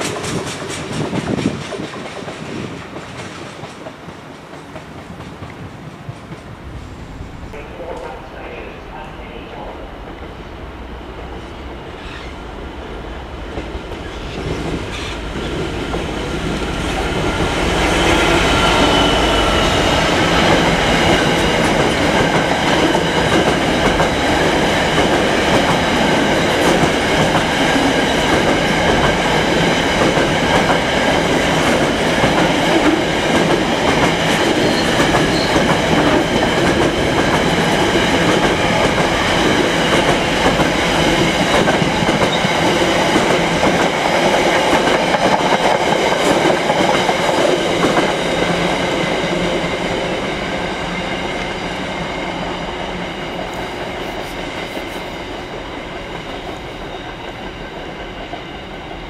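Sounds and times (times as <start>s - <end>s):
diesel locomotive passing: 0.0s - 59.0s
train wheels on track: 0.0s - 59.0s.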